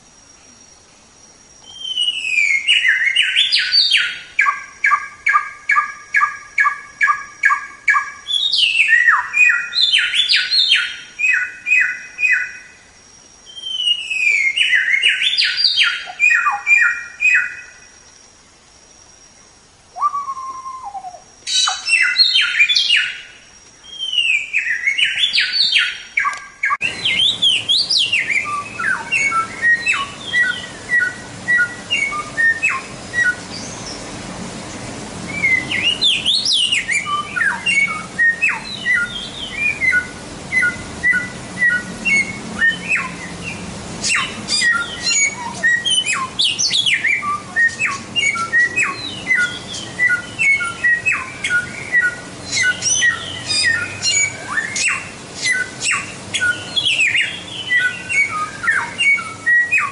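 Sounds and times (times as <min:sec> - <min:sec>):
songbird whistling song: 0:01.6 - 0:18.3, 0:18.9 - 0:59.9.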